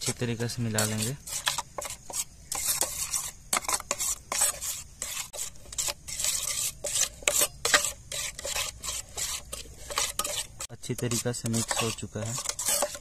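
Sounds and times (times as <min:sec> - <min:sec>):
mussel shells scraping and clicking: 0:00.8 - 0:13.0.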